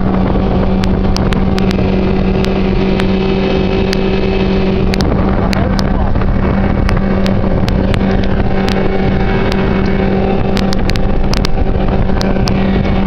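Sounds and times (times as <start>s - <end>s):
boat motor running: 0.0s - 13.0s
rushing noise: 0.0s - 13.0s.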